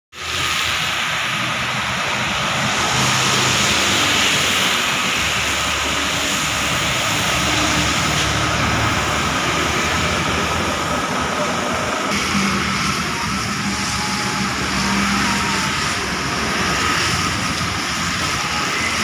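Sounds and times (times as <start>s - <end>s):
truck and bus engines: 0.1s - 19.0s
tyres hissing on wet road: 0.1s - 19.0s.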